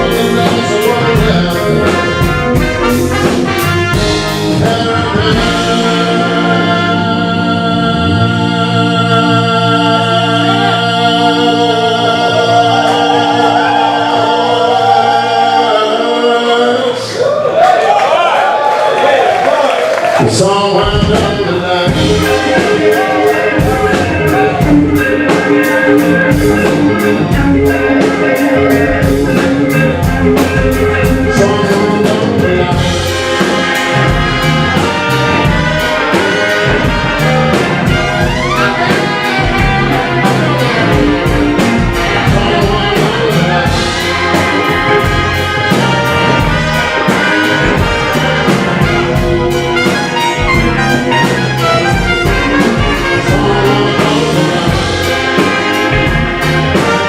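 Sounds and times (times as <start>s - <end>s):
saxophone and trumpet lines: 0.0s - 17.0s, 20.0s - 57.0s
blues band playing: 0.0s - 57.0s.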